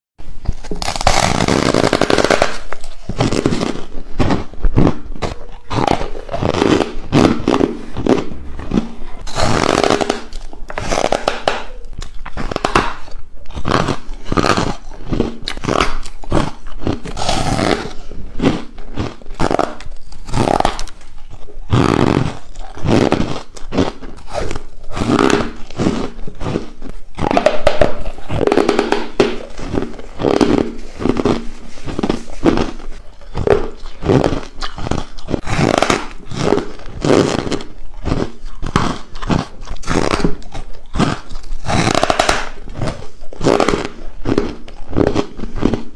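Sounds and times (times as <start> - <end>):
biting and crunching ice: 0.4 - 45.9
chewing: 0.4 - 45.9.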